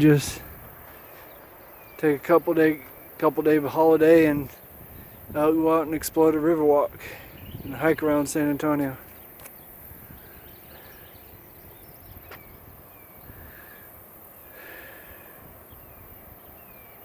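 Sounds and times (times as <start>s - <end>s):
wind rumble on microphone: 0.0s - 1.7s, 2.8s - 14.2s, 15.1s - 17.0s
birds chirping faintly: 0.0s - 17.0s.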